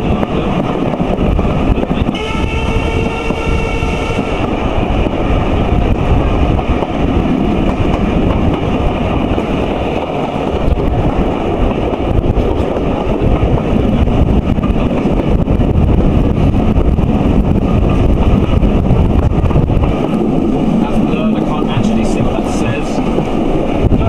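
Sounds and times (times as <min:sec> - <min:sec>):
train carriages running on track: 0:00.0 - 0:24.0
wind buffeting microphone: 0:00.0 - 0:24.0.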